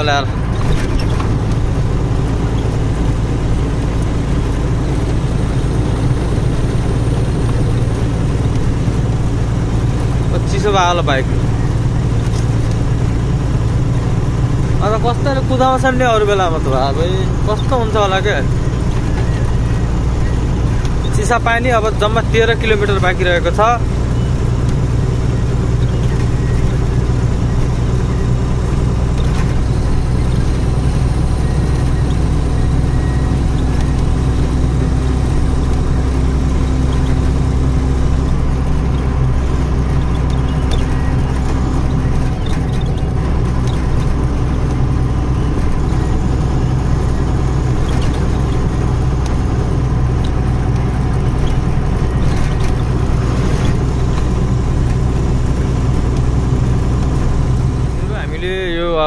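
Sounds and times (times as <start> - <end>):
truck diesel engine running: 0.0 - 59.0
tyre and road rush: 0.0 - 59.0.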